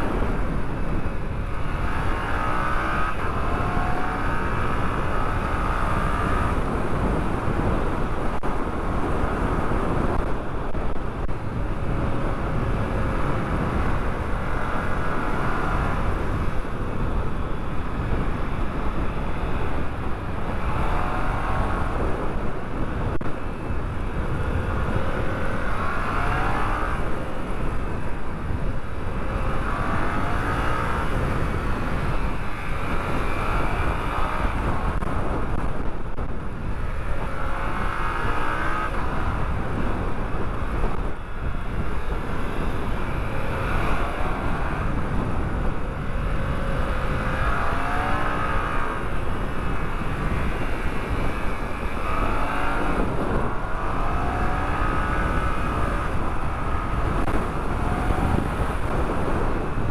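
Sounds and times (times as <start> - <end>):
motorcycle engine revving: 0.0 - 10.3, 11.3 - 59.9.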